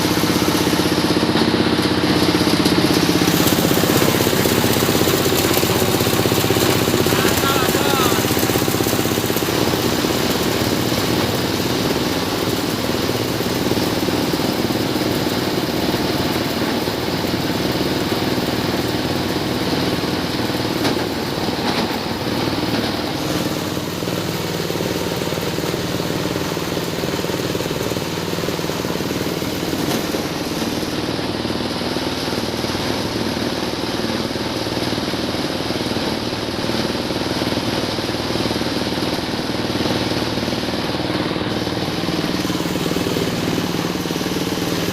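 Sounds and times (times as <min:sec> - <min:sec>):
shredder grinder running: 0:00.0 - 0:44.9.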